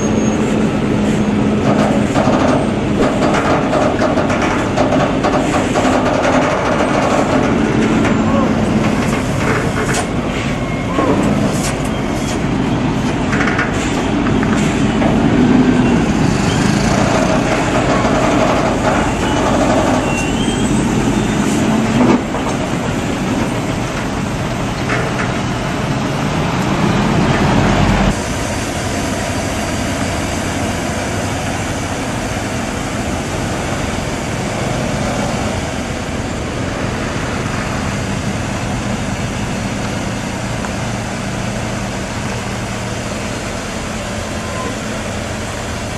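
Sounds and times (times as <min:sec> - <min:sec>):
heavy truck engines revving: 0:00.0 - 0:45.9.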